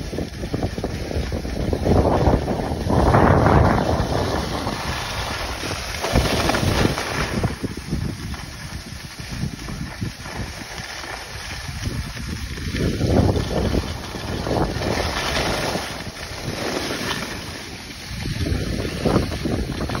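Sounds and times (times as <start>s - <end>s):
skis scraping on snow: 0.0s - 20.0s
wind buffeting microphone: 0.0s - 20.0s.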